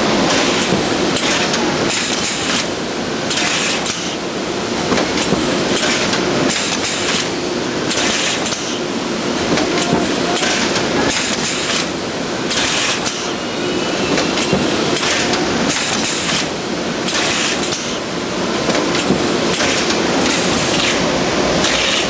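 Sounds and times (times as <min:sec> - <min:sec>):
conveyor machinery clattering: 0:00.0 - 0:22.0.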